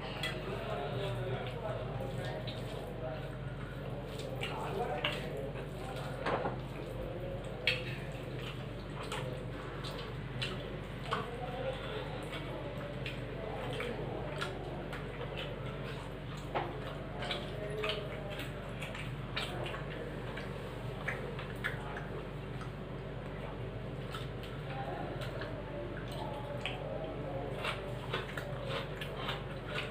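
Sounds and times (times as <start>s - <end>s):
fingers mixing rice: 0.0s - 29.9s
steady low hum: 0.0s - 29.9s
chewing and mouth smacks: 0.2s - 29.9s.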